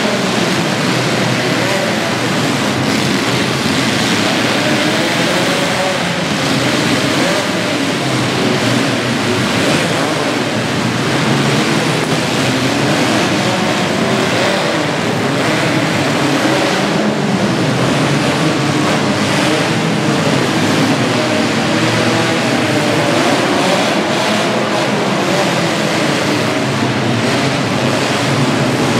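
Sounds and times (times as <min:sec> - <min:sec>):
car engines revving together: 0:00.0 - 0:28.9.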